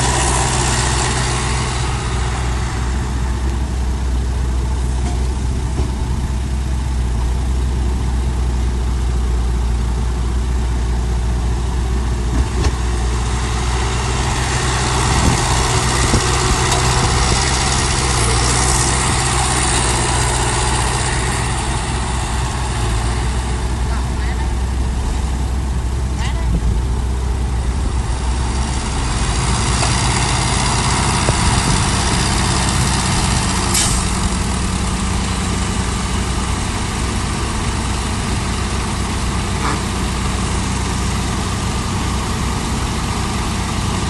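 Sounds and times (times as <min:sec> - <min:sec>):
heavy diesel engine droning: 0:00.0 - 0:44.0.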